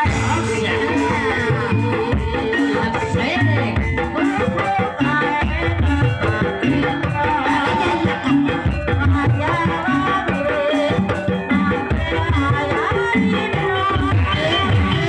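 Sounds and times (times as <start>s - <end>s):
gamelan ensemble melody: 0.0s - 15.0s.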